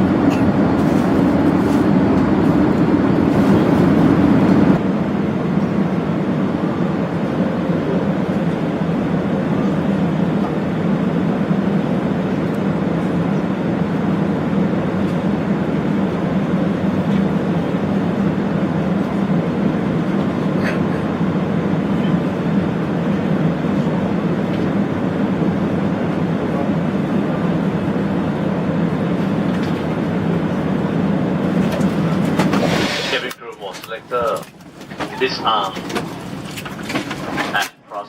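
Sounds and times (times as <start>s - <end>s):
airplane cabin engine hum: 0.0s - 38.0s.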